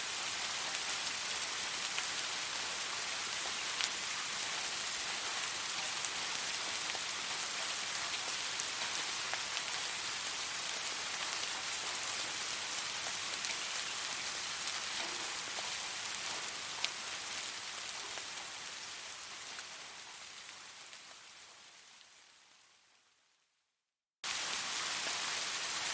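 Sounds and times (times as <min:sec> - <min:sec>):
steady rain falling: 0:00.0 - 0:23.4, 0:24.2 - 0:25.9.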